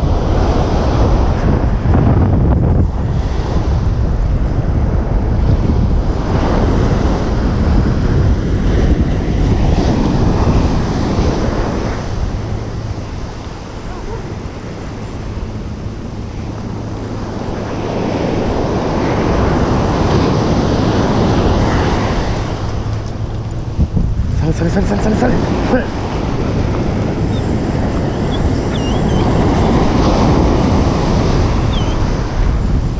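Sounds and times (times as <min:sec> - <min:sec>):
surf breaking on beach: 0:00.0 - 0:32.9
wind buffeting microphone: 0:00.0 - 0:32.9.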